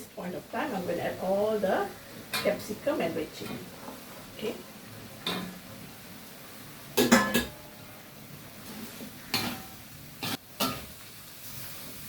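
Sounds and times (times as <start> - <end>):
vegetables stir-frying: 0.0 - 12.0.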